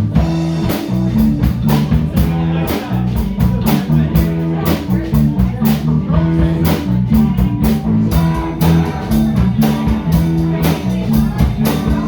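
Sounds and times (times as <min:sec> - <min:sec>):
bass guitar: 0:00.0 - 0:12.0
guitars: 0:00.0 - 0:12.0
steady drum beat: 0:00.0 - 0:12.0.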